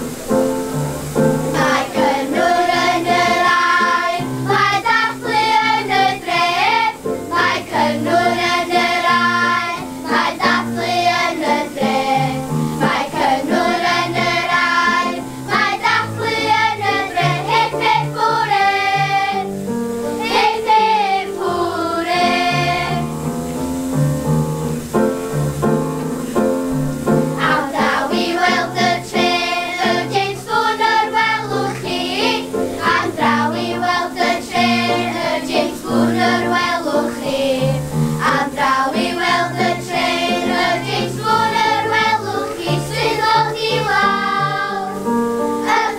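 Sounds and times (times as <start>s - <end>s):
children's choir singing: 0.0s - 23.9s, 27.1s - 45.9s
instrumental accompaniment: 0.0s - 45.9s.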